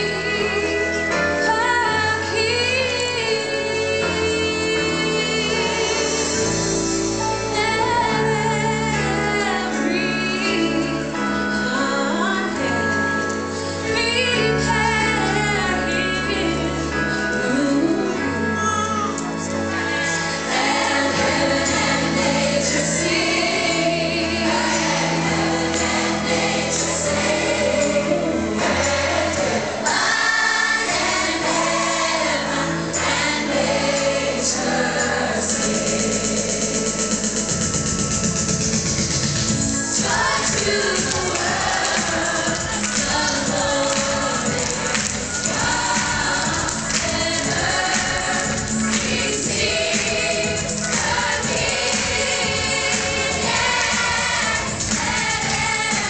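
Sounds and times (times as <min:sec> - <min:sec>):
young choir singing: 0:00.0 - 0:13.0, 0:19.4 - 0:37.6, 0:39.6 - 0:56.0
instrumental accompaniment: 0:00.0 - 0:56.0.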